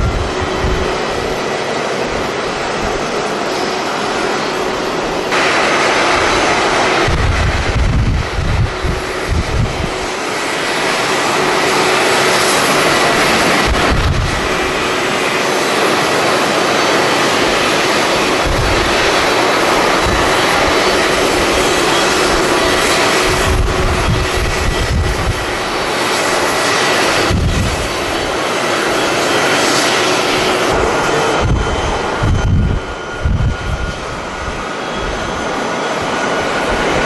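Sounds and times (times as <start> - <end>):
jet engines roaring: 0.0 - 37.0
wind buffeting microphone: 0.0 - 37.0.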